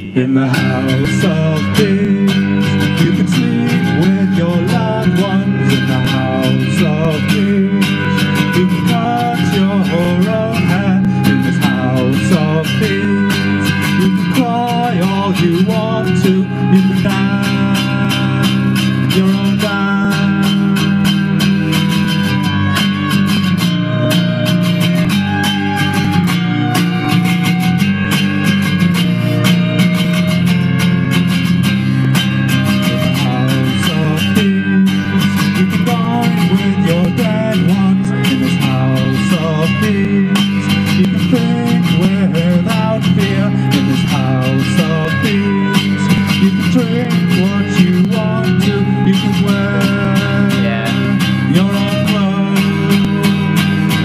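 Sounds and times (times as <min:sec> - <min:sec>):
live band playing: 0:00.0 - 0:54.0
strummed guitar: 0:00.0 - 0:54.0.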